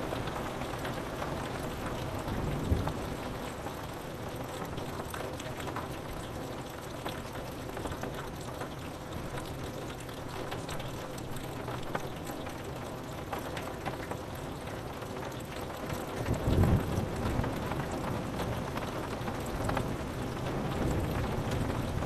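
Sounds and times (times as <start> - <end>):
rain drops tapping on window glass: 0.0 - 22.0.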